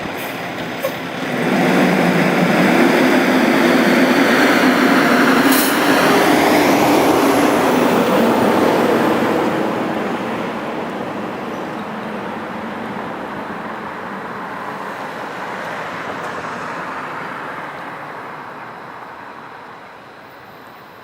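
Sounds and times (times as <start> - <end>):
passing vehicle: 0.0 - 21.0.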